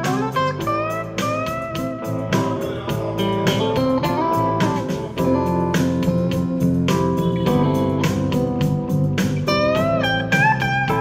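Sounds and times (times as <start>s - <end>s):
guitar with sliding notes: 0.0s - 11.0s
steady drum beat: 0.0s - 11.0s.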